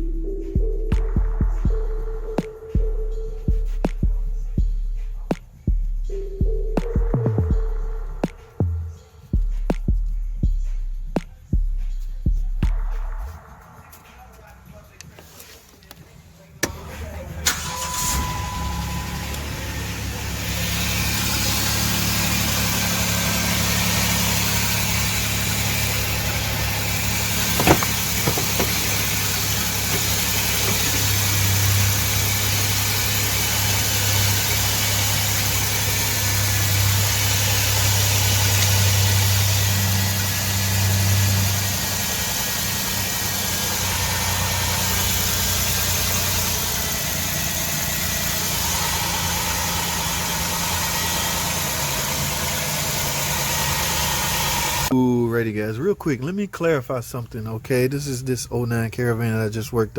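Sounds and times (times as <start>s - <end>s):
car engine idling: 0.0s - 9.5s, 12.0s - 55.0s.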